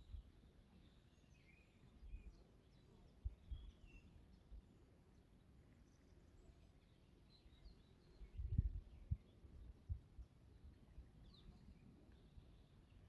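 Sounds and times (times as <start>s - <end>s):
distant small birds chirping: 0.0s - 13.0s.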